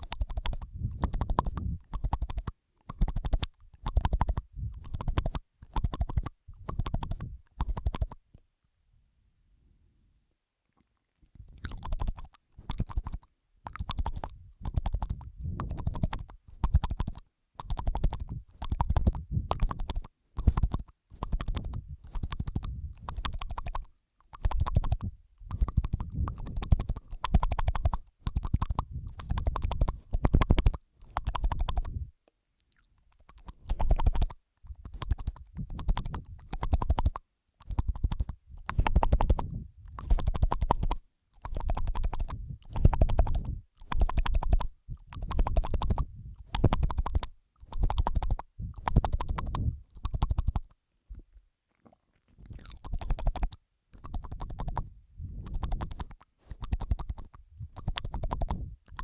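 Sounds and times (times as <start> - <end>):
wet mouth clicking and smacking: 0.0 - 8.4, 10.7 - 59.0.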